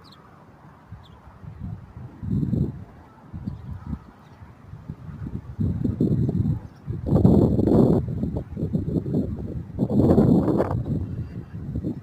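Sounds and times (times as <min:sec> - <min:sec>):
wind gusting over microphone: 0:00.0 - 0:12.0.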